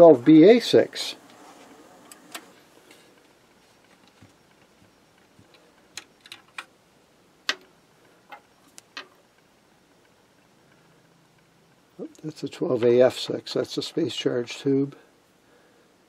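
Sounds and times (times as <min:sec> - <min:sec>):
faint receiver hiss: 0:00.0 - 0:15.5.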